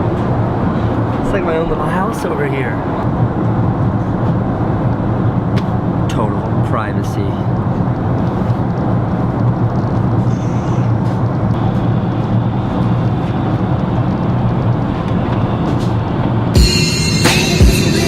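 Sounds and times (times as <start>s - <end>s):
constant low hum: 0.0s - 18.0s
jet engines and airflow rushing: 0.0s - 18.0s.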